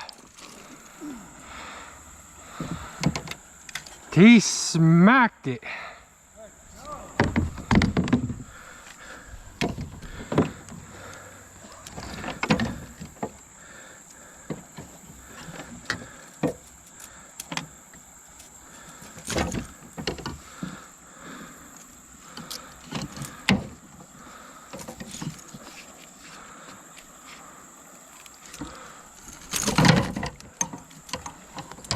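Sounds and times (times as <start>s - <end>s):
high insect buzz: 0.0s - 31.9s.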